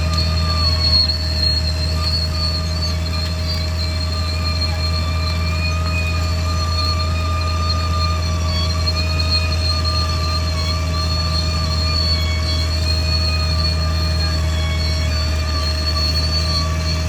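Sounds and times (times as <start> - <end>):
bulldozer diesel drone: 0.0 - 17.0
high squealing tones: 0.0 - 17.0.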